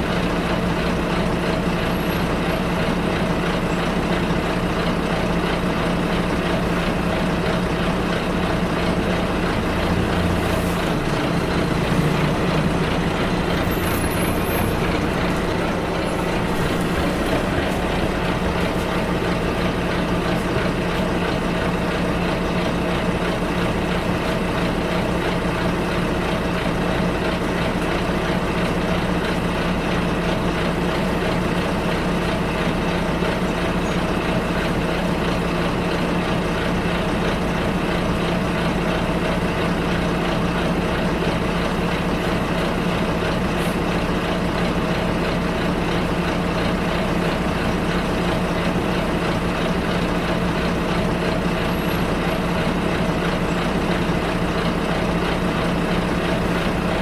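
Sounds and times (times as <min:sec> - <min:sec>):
bus engine drone: 0:00.0 - 0:57.0
road and cabin noise: 0:00.0 - 0:57.0.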